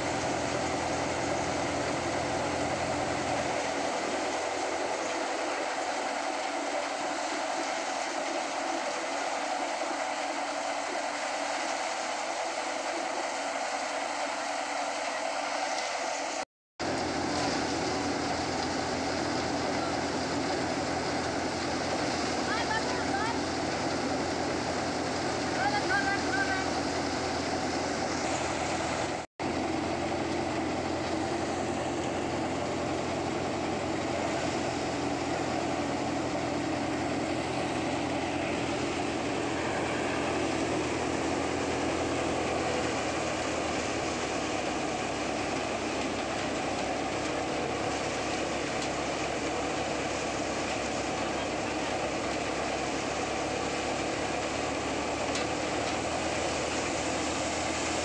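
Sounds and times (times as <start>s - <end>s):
threshing drum spinning: 0.0s - 58.0s
tractor engine humming: 0.0s - 58.0s.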